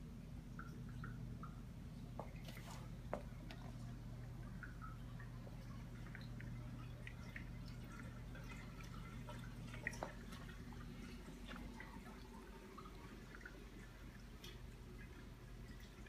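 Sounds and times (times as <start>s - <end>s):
aquarium water dripping and trickling: 0.0s - 16.0s.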